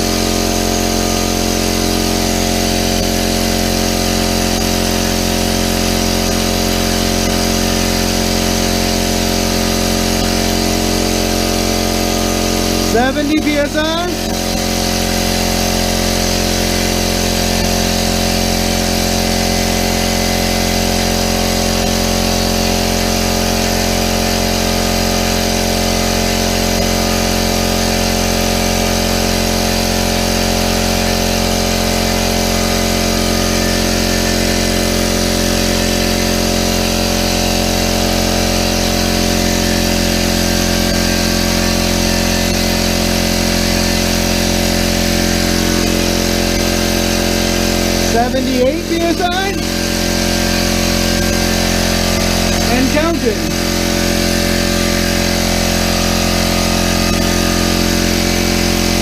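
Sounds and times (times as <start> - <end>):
electric air compressor running: 0.0 - 59.0.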